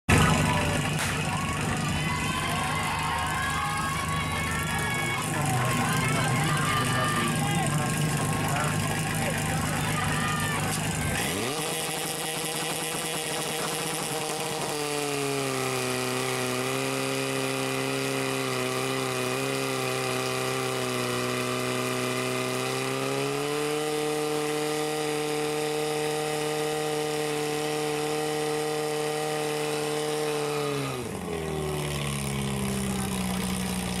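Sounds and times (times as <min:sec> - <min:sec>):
pump engine revving: 0:00.0 - 0:34.0.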